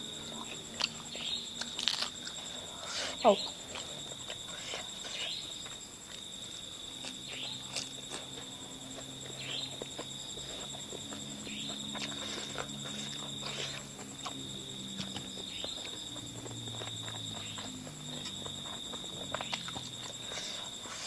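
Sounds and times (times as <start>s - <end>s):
person chewing close to microphone: 0.0s - 3.0s, 3.6s - 21.0s.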